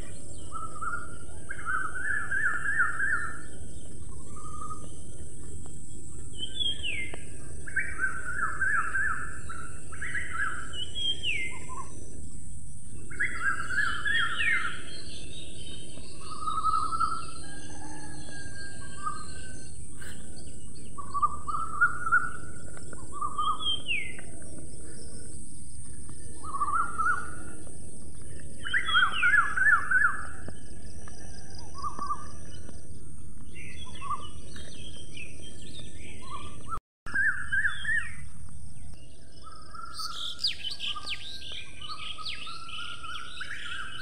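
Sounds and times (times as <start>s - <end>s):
birds chirping and singing: 0.0s - 44.0s.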